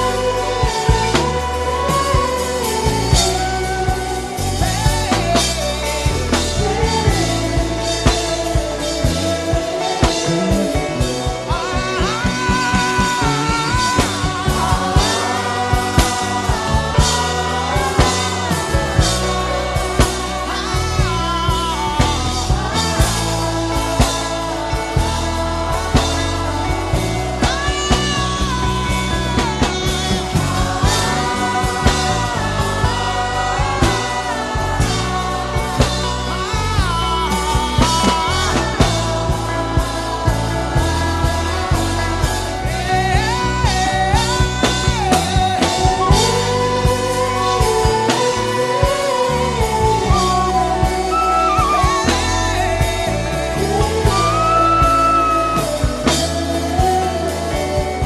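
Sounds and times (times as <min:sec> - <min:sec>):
gospel band music: 0:00.0 - 0:58.0.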